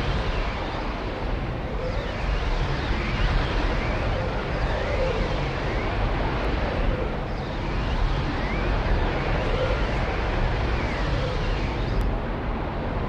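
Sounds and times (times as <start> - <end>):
faint gliding whistling tones: 0.0 - 12.2.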